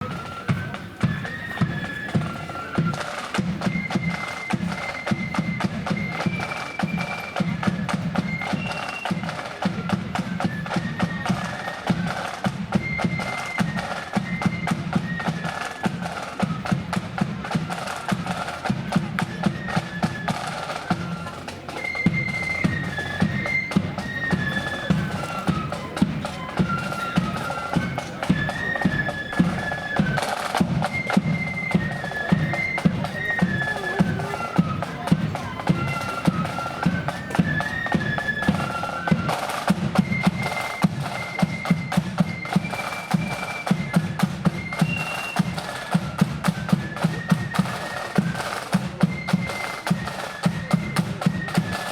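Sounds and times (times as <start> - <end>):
flute melody: 0.0 - 51.9
marching drums: 0.0 - 51.9.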